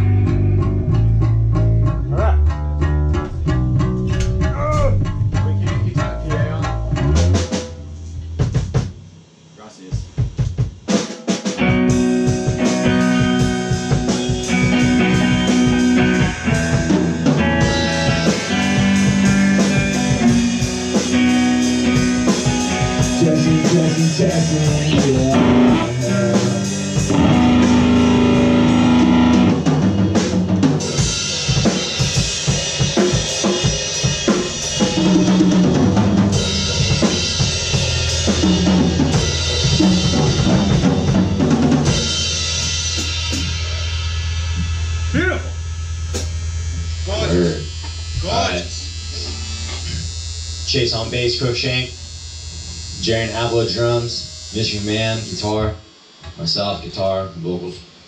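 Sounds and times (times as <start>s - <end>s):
electric guitars: 0.0s - 8.8s, 11.0s - 55.6s
electric bass: 0.0s - 9.5s, 11.6s - 58.0s
drum kit: 0.0s - 56.7s.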